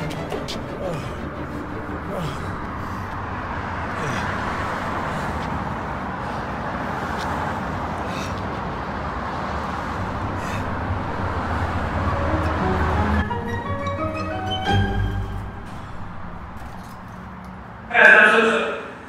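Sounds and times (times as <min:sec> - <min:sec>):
passing cars hum: 0:00.0 - 0:19.0.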